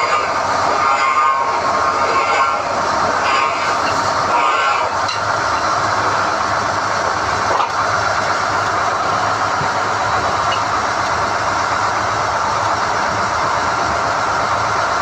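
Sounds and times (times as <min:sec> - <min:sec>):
drilling rig engine and machinery: 0:00.0 - 0:15.0.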